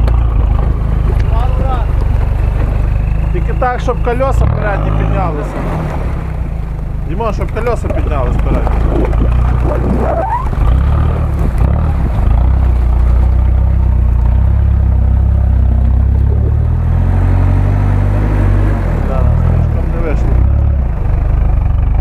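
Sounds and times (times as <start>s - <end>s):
truck engine pulling under load: 0.0s - 22.0s.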